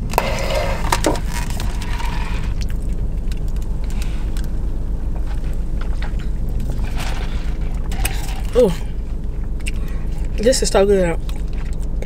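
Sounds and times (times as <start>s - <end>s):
car engine idling rumble: 0.0s - 12.0s.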